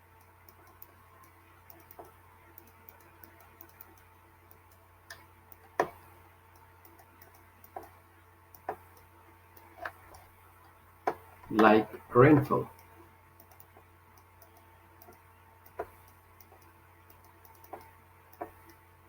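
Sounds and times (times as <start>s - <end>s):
faint ticks and clicks: 0.0s - 19.0s
low steady hum: 0.0s - 19.0s.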